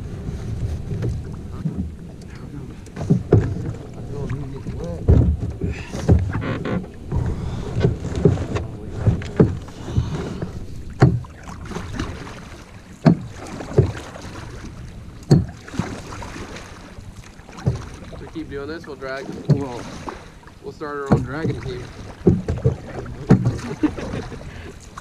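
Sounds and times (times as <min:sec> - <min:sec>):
paddle knocking against hull: 0:00.0 - 0:25.0
paddle strokes swishing in water: 0:00.0 - 0:25.0.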